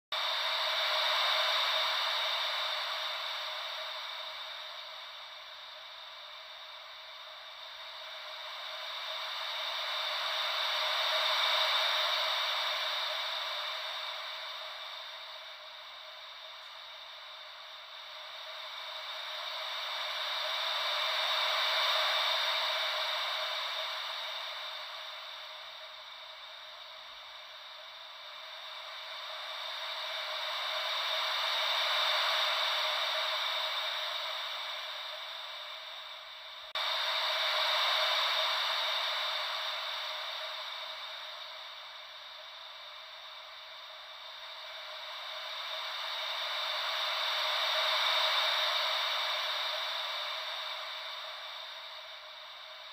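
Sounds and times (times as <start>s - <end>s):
hissing white noise like waves: 0.2s - 52.9s.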